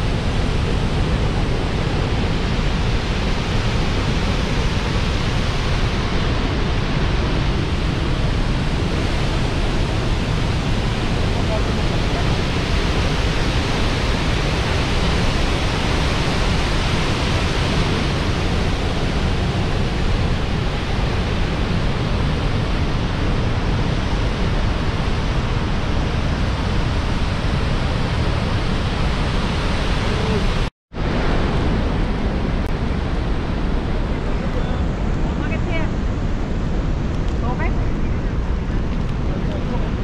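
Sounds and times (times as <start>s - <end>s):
waterfall roaring: 0.0s - 40.0s.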